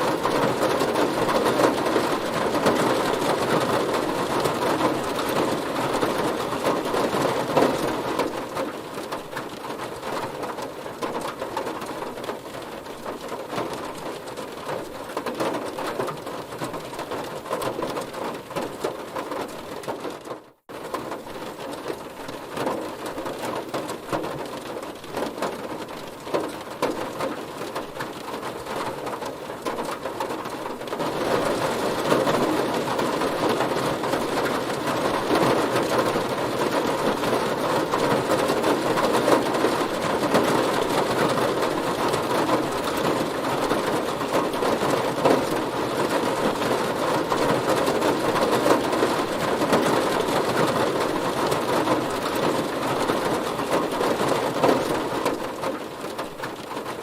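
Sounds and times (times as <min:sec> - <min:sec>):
heavy rain drumming on a car: 0:00.0 - 0:57.0.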